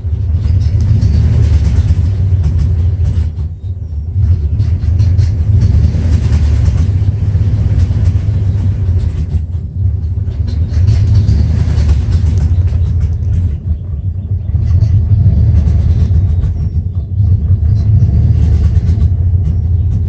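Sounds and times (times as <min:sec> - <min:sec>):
engine idling roughly: 0:00.0 - 0:20.0.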